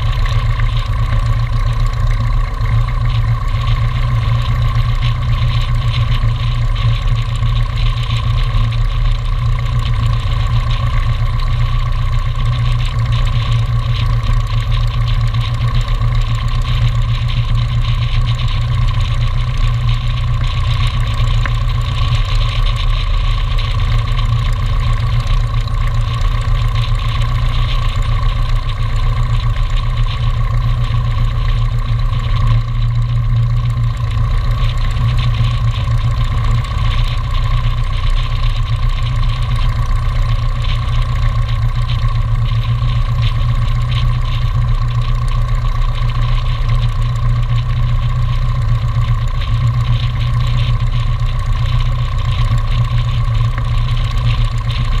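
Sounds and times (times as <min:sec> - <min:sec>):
piston aircraft engine idling: 0:00.0 - 0:55.0.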